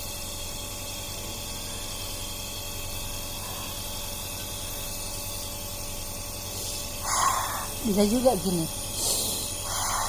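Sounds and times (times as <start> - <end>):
nebulizer motor hum with hiss: 0.0 - 10.0.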